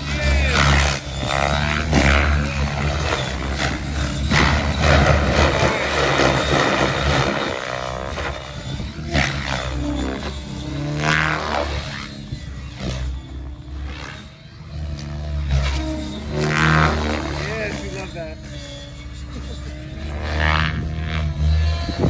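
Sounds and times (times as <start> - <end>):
rc helicopter rotor hum: 0.0 - 22.0.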